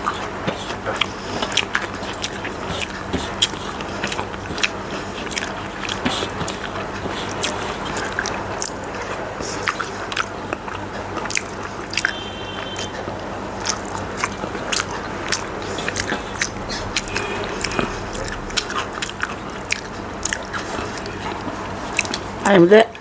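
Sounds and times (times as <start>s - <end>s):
close chewing and mouth clicks: 0.0s - 22.5s.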